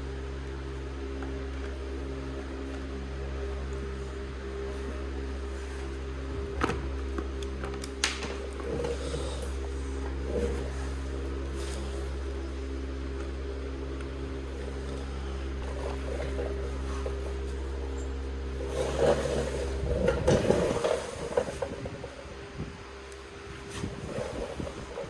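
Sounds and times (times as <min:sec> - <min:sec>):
mechanical motor hum: 0:00.0 - 0:25.0.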